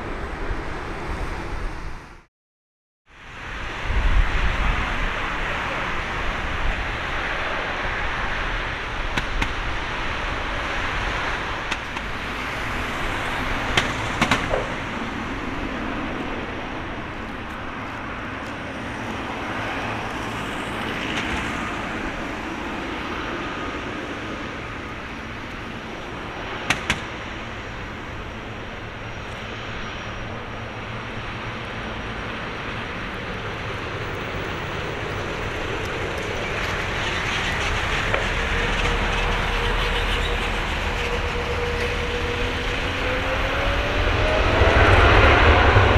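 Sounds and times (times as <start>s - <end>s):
jet engines rushing: 3.3s - 45.9s.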